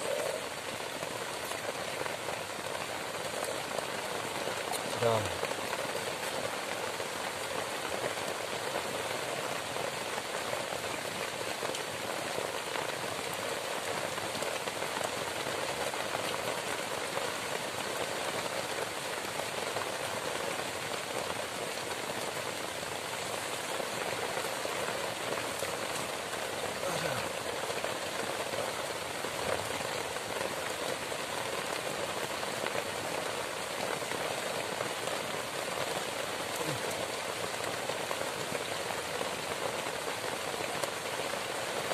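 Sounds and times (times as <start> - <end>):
heavy rain on foliage: 0.0 - 41.9.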